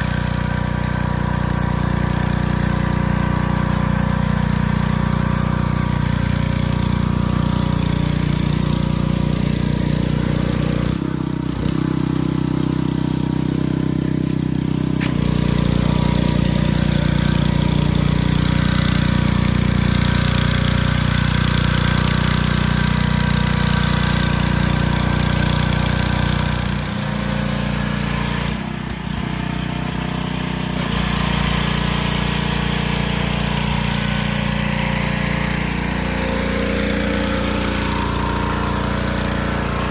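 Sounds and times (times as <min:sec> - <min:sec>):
pressure washer engine running: 0:00.0 - 0:39.9
water spraying on concrete: 0:00.0 - 0:39.9.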